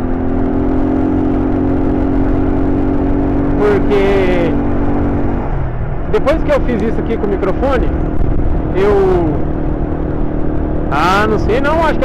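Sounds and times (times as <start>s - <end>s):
low wind rumble: 0.0s - 12.0s
motorcycle engine cruising: 0.0s - 12.0s.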